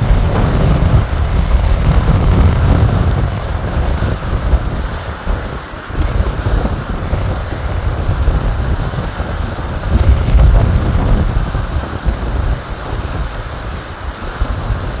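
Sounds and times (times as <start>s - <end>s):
waterfall cascading over rocks: 0.0s - 15.0s
wind buffeting microphone: 0.0s - 15.0s.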